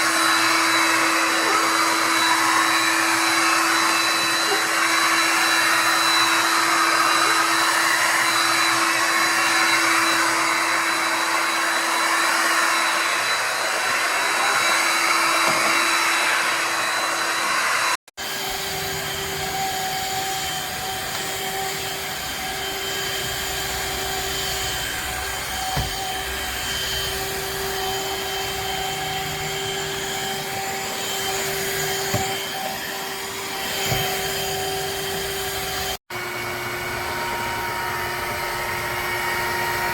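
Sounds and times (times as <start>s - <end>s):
vacuum mop running: 0.0s - 39.9s.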